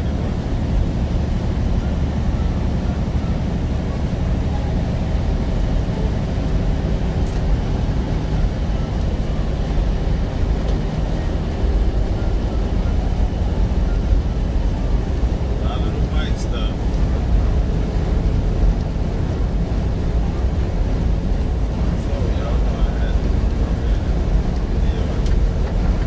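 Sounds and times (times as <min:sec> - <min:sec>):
truck engine drone: 0:00.0 - 0:26.0
tyre and road noise on snow: 0:00.0 - 0:26.0.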